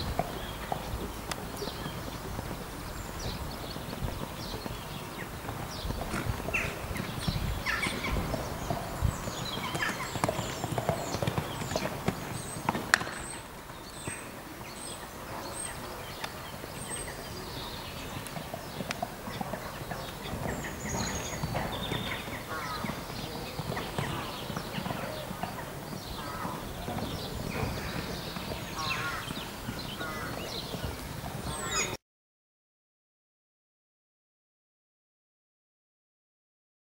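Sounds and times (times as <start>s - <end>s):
horse hoofbeats on sand: 0.0s - 32.0s.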